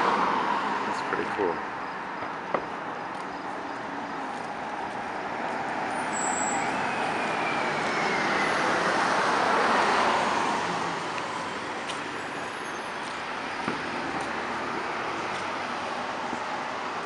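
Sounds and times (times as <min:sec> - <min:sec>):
bus driving past: 0:00.0 - 0:17.0.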